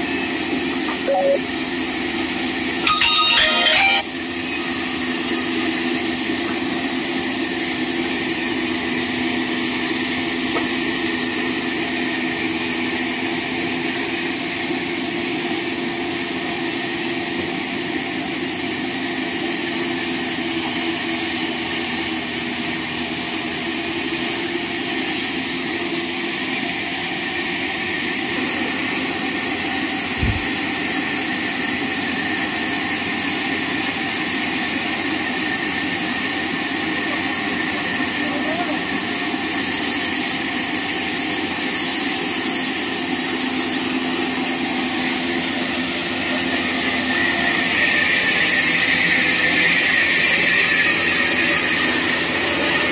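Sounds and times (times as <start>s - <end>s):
band saw cutting log: 4.0s - 52.9s.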